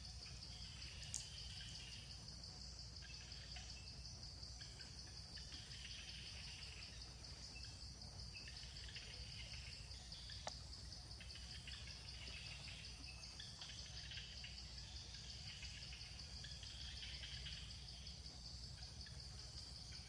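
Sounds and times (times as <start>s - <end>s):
insect chorus drone: 0.0s - 20.0s.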